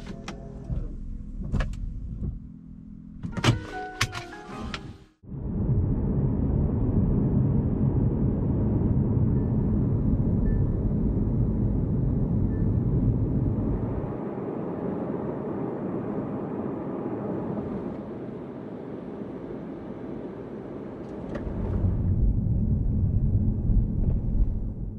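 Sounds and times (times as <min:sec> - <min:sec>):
road and tyre noise: 0:00.0 - 0:24.9.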